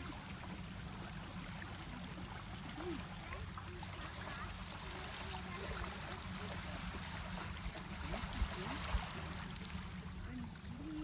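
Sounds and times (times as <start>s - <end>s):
water lapping on stony shore: 0.0s - 11.0s.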